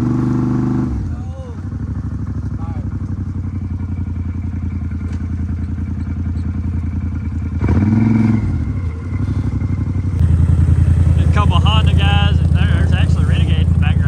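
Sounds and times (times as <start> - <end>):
off-road vehicle engine running: 0.0 - 14.0.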